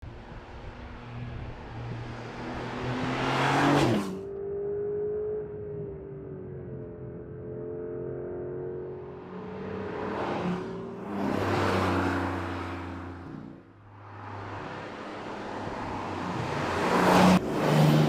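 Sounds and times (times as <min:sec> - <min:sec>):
sports car accelerating past: 0:00.6 - 0:18.0.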